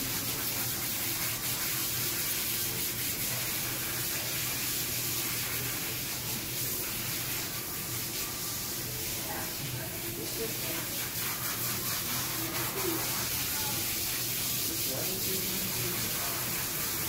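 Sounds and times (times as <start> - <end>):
water hissing from hose nozzle: 0.0 - 17.0.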